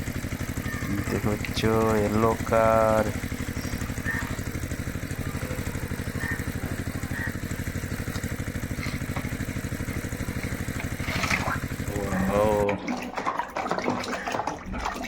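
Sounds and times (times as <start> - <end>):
small motor chugging: 0.0 - 15.0.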